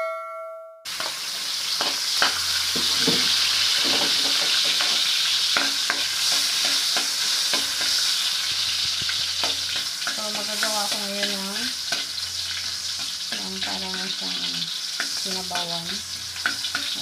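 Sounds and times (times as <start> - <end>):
ginger sizzling in oil: 0.9 - 17.0
metal spatula scraping a pan: 0.9 - 17.0.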